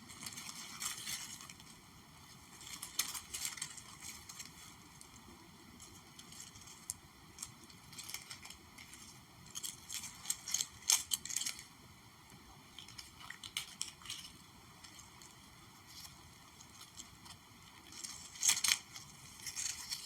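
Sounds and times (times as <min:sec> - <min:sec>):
crackling and tapping handling sounds: 0:00.0 - 0:20.0.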